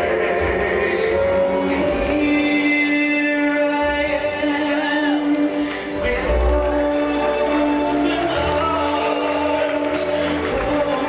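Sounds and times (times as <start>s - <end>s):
ballroom dance music: 0.0s - 11.0s.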